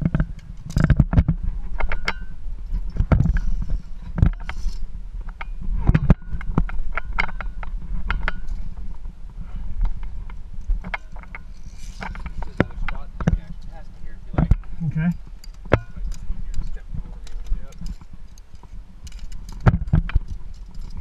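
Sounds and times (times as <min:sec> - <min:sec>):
carabiners clinking on steel cable: 0:00.0 - 0:01.1, 0:01.7 - 0:09.0, 0:09.9 - 0:13.7, 0:14.6 - 0:21.0
camera handling rumble: 0:00.0 - 0:21.0.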